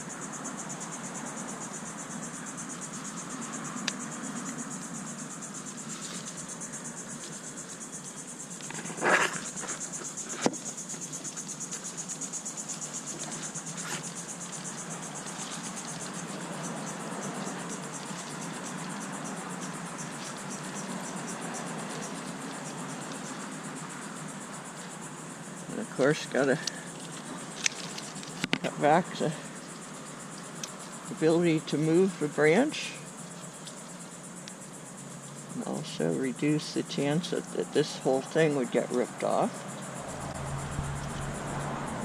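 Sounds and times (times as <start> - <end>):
insects trilling: 0.0 - 42.0
rustle: 0.0 - 42.0.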